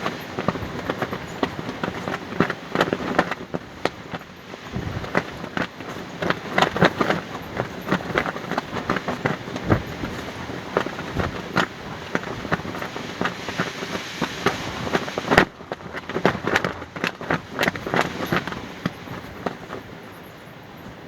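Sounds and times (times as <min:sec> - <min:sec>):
fabric flapping and snapping: 0:00.0 - 0:19.9.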